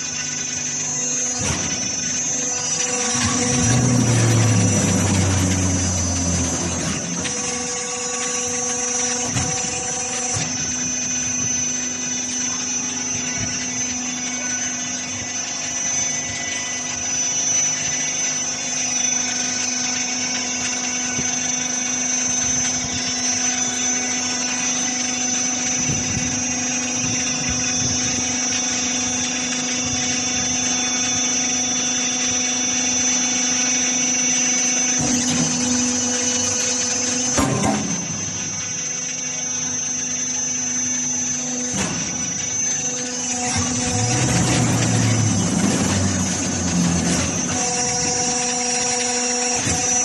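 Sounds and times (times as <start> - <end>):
baler motor humming: 0.0 - 50.0
high whine: 0.0 - 50.0.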